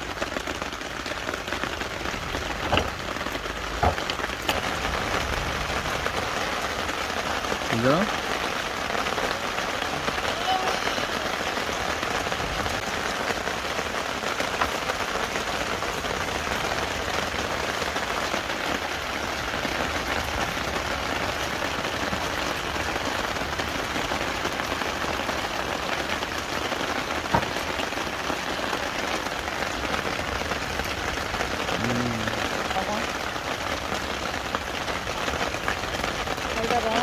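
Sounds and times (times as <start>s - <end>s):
rain pattering: 0.0s - 37.0s.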